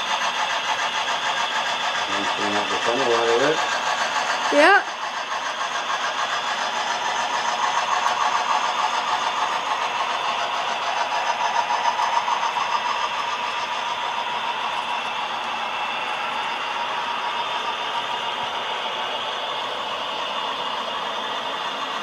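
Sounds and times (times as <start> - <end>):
model trains humming: 0.0 - 22.0.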